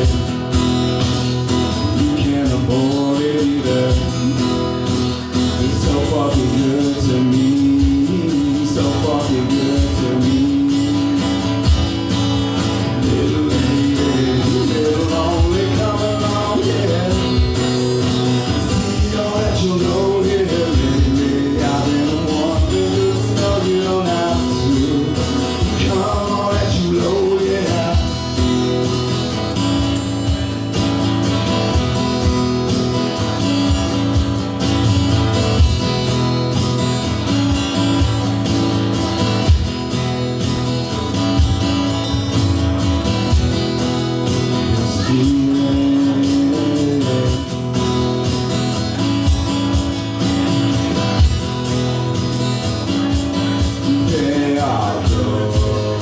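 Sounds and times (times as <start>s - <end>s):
bass: 0.0s - 56.0s
steady drum beat: 0.0s - 56.0s
strummed acoustic guitar: 0.0s - 56.0s.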